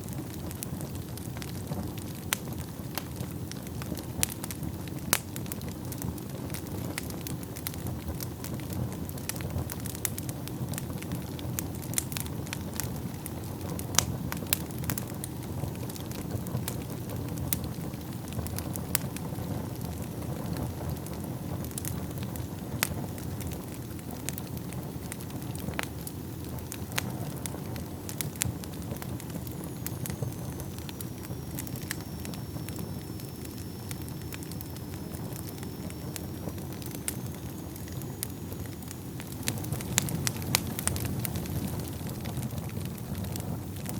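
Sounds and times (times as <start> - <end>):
fire crackling and popping: 0.0 - 43.9
fire flames rumbling: 0.0 - 43.9.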